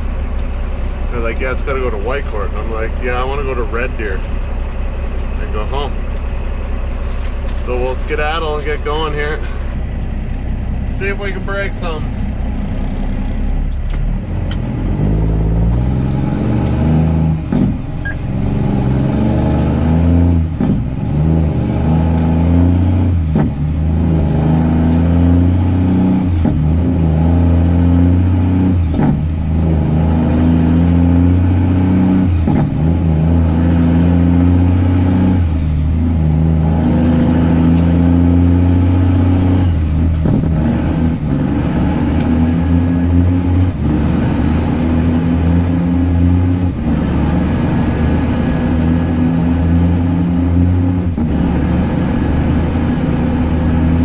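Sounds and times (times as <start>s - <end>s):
diesel truck engine shifting gears: 0.0s - 54.0s.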